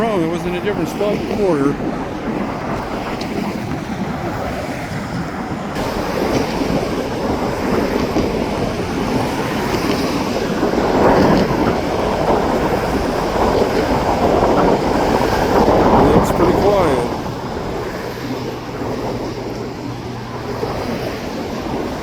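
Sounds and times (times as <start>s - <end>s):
railway wheels rumbling on rails: 0.0s - 22.0s.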